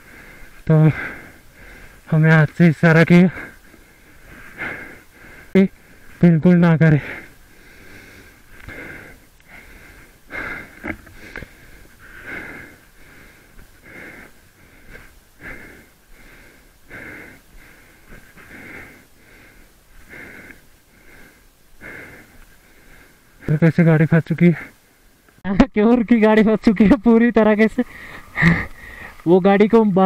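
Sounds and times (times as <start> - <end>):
person breathing heavily: 0.0 - 2.3, 2.9 - 25.3, 27.7 - 29.3.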